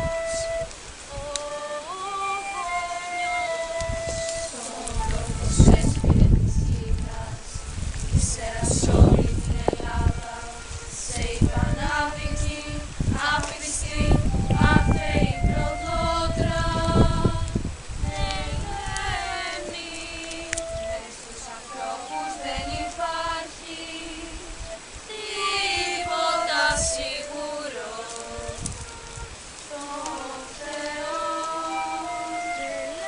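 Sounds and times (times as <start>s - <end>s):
girls choir singing: 0.0s - 33.0s.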